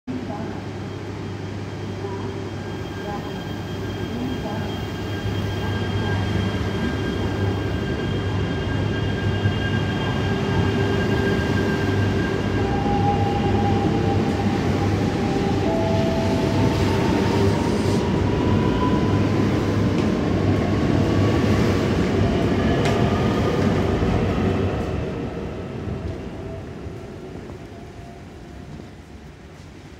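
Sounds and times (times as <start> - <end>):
train humming with rising whine: 0.1 - 29.9.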